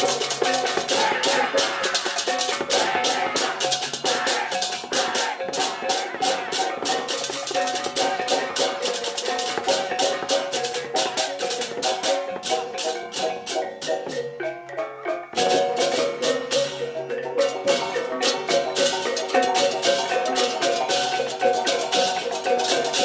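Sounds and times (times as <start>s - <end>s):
ringing metallophone notes: 0.0s - 23.0s
small cymbals clashing: 0.0s - 23.0s.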